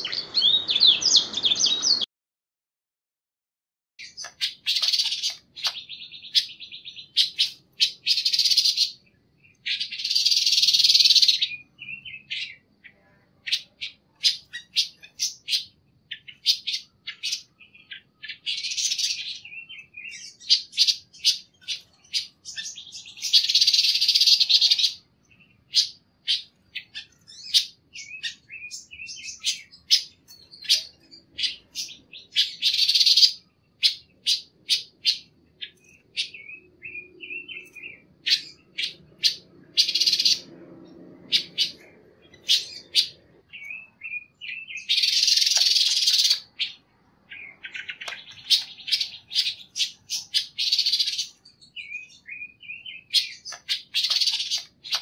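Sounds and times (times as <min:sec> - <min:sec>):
bird chirping and warbling: 0:00.0 - 0:02.1, 0:04.0 - 0:55.0
bird harsh chattering: 0:04.0 - 0:40.5, 0:41.3 - 0:55.0.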